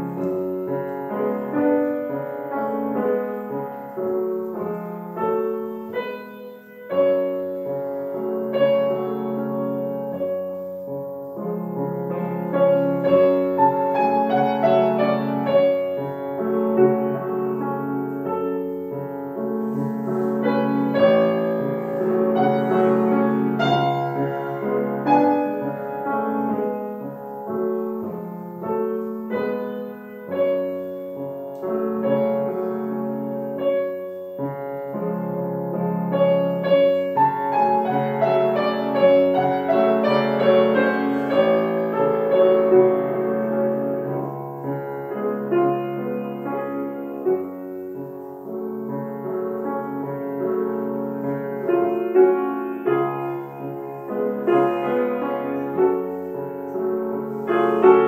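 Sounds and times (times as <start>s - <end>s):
solo grand piano piece: 0.0s - 58.0s.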